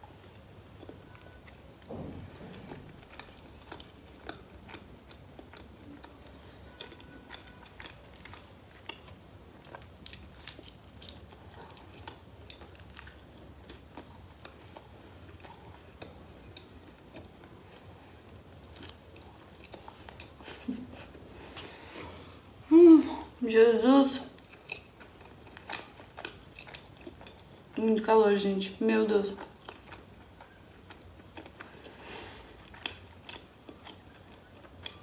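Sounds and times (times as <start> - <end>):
person chewing pizza: 0.0 - 22.5, 24.3 - 28.0, 29.3 - 35.0.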